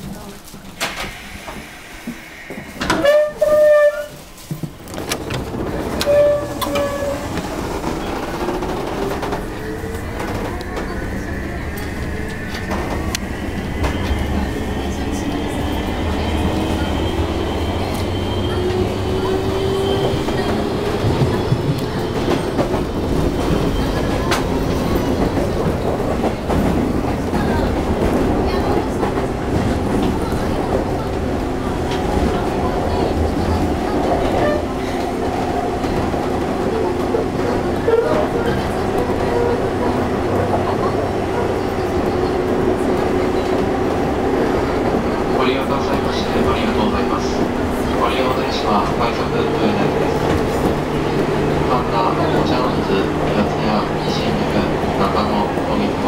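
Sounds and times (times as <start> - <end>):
low train rumble: 0.0 - 56.0.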